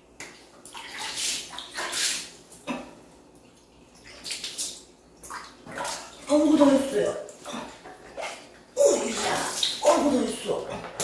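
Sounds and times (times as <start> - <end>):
water splashing in plastic basins: 0.1 - 11.0.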